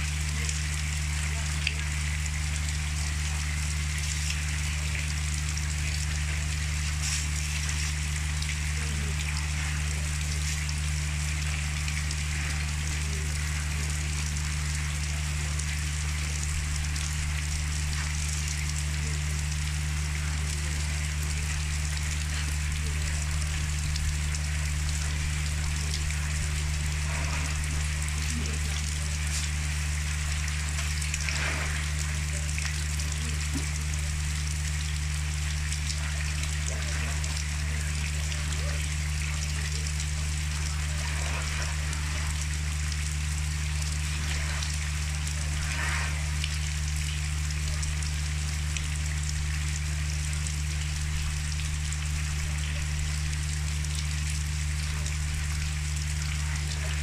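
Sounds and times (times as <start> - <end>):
rain falling on wet ground: 0.0 - 57.0.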